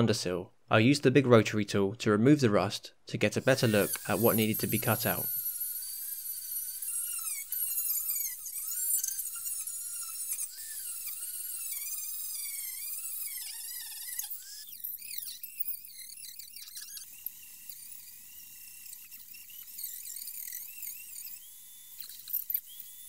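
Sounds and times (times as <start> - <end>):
rotary tool grinding metal: 3.3 - 23.0.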